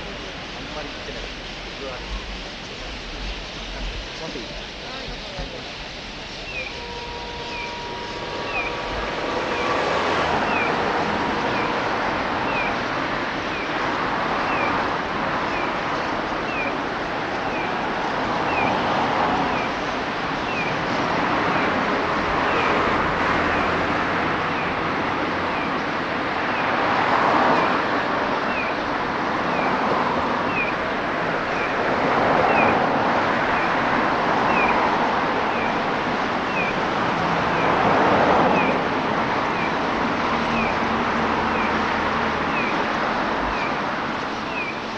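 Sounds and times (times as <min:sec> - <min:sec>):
flock of starlings chattering: 0:00.0 - 0:44.9.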